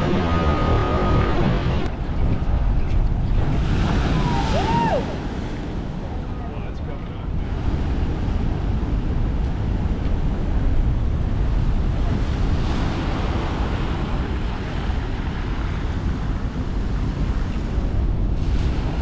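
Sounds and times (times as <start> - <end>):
surf breaking and washing: 0.0 - 19.0
wind rumbling on microphone: 0.0 - 19.0.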